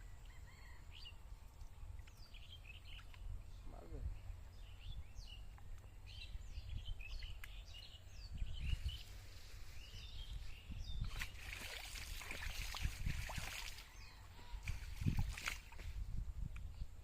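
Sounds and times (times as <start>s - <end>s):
birds chirping: 0.1s - 15.8s.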